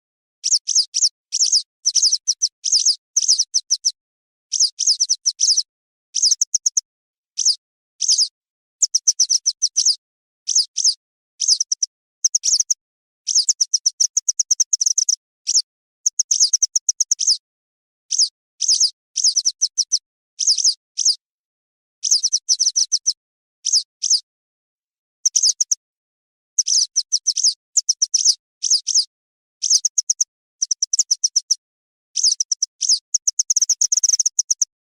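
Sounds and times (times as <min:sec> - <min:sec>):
bird chirping rapidly: 0:00.4 - 0:06.8, 0:07.4 - 0:17.4, 0:18.1 - 0:21.2, 0:22.0 - 0:24.3, 0:25.2 - 0:25.8, 0:26.6 - 0:31.6, 0:32.2 - 0:34.7.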